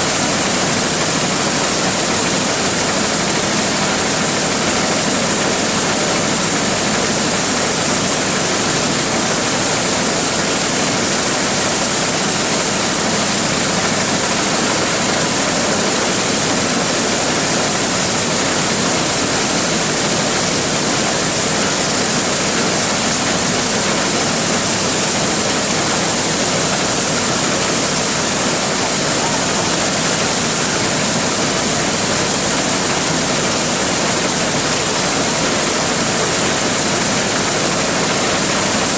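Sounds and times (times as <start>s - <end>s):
corn sheller machine running: 0.0s - 38.9s.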